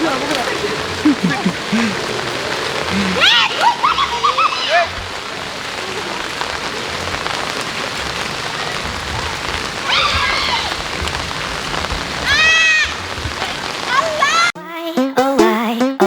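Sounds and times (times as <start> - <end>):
drawn-out yell: 0.0 - 14.5
rain hissing: 0.0 - 14.6.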